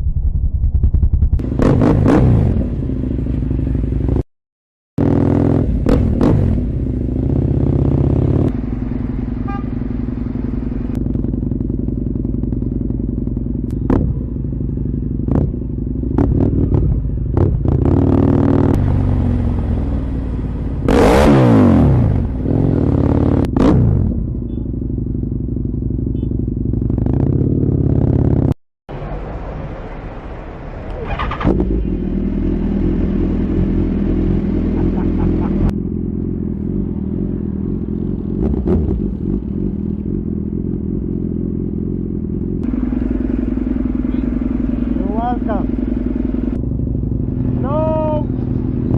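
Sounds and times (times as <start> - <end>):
motorcycle engine revving: 0.0 - 4.2, 5.0 - 28.6, 30.9 - 48.9.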